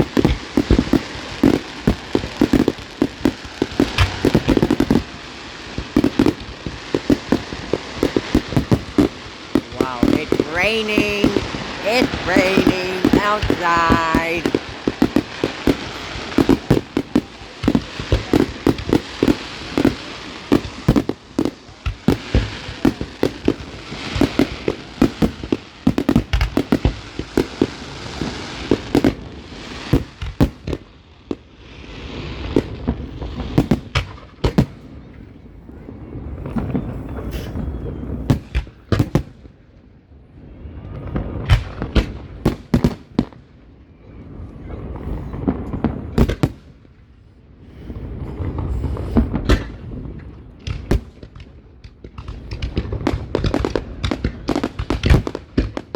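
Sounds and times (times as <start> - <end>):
fireworks bangs and crackles: 0.0 - 55.9
hissing crackle of fireworks: 0.0 - 55.9.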